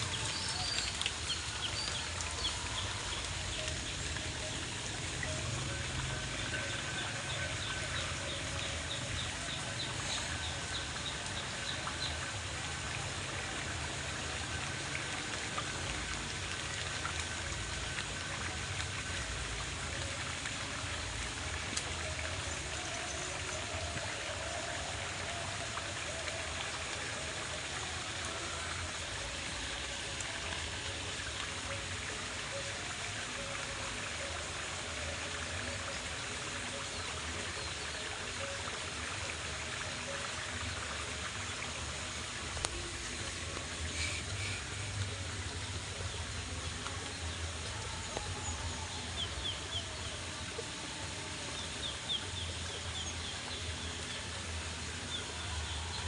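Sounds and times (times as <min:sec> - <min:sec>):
steady rain falling: 0:00.0 - 0:56.0
water trickling: 0:00.0 - 0:56.0.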